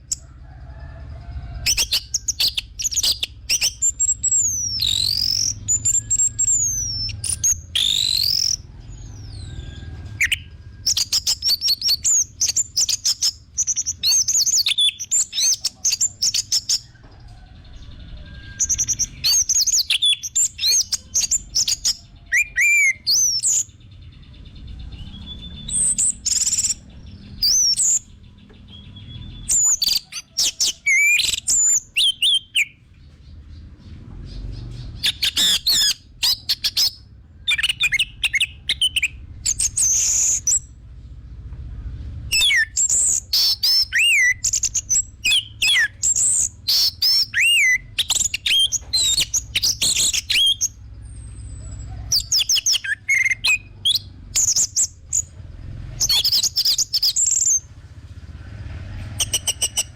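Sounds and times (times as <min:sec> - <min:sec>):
thrush singing whistled phrases: 0:01.6 - 0:16.8, 0:18.0 - 0:32.8, 0:35.0 - 0:40.8, 0:42.3 - 0:55.4, 0:56.0 - 0:57.7, 0:59.1 - 0:59.9.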